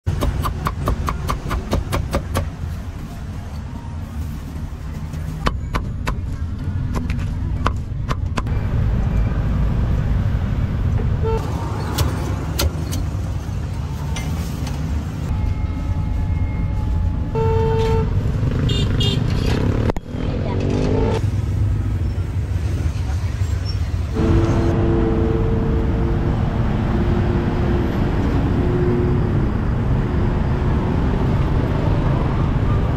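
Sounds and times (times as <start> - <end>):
street traffic rumble: 0.0 - 32.9.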